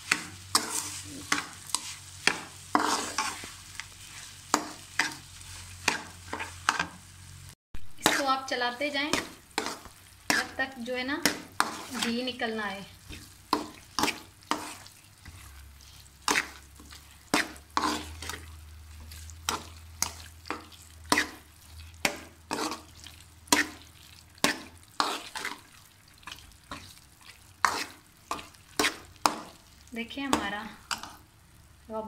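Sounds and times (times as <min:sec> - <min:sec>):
spoon scraping metal pan: 0:00.0 - 0:07.0, 0:08.0 - 0:29.6.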